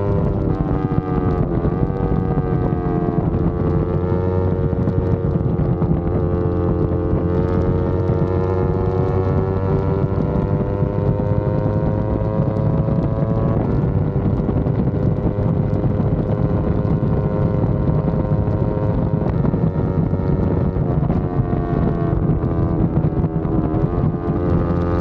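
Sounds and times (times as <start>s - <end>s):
motorcycle engine accelerating: 0.0s - 25.0s
wind rushing over microphone: 0.0s - 25.0s.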